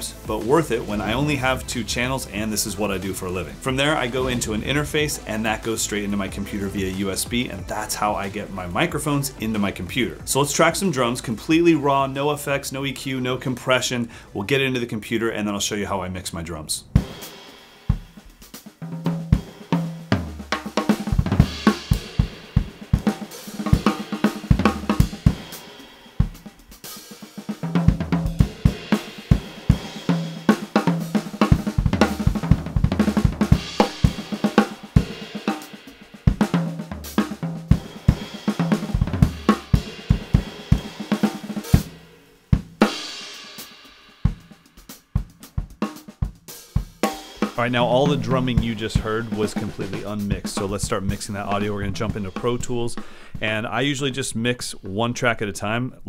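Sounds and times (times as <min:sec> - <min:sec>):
drum kit groove: 0:00.0 - 0:15.9, 0:16.8 - 0:55.5.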